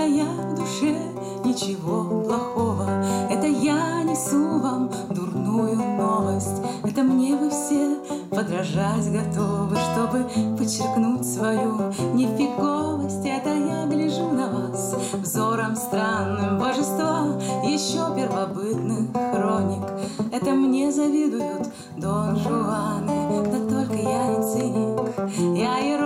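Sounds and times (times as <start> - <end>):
strummed acoustic guitar: 0.0 - 26.0
woman singing: 0.0 - 26.0.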